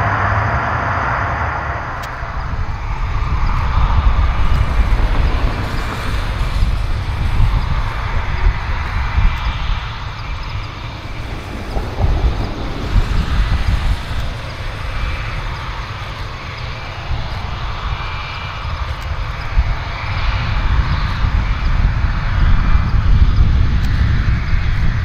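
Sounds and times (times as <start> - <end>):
jet engines rumbling with whine: 0.0 - 25.0.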